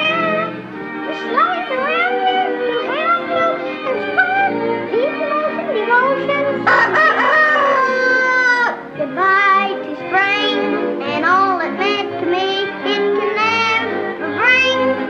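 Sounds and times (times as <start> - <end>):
boy singing: 0.0 - 0.5, 1.1 - 6.7, 9.0 - 15.0
orchestral accompaniment: 0.0 - 15.0.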